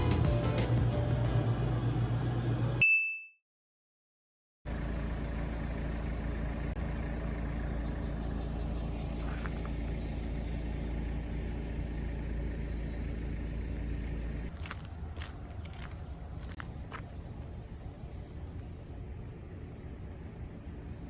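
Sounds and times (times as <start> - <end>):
van engine rumbling: 0.0 - 2.8, 4.7 - 21.0.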